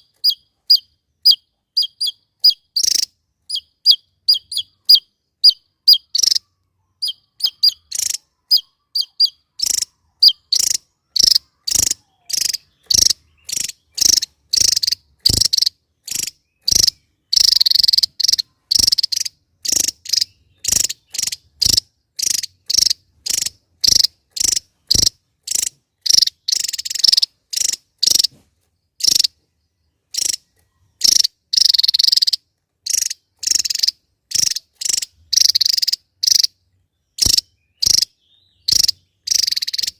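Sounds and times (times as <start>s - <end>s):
bird singing high sharp notes: 0.0s - 28.4s, 30.1s - 39.9s.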